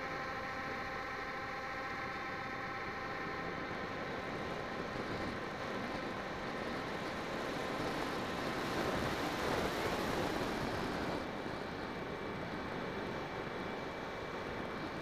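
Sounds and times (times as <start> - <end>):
electric motor and propeller humming: 0.0 - 15.0.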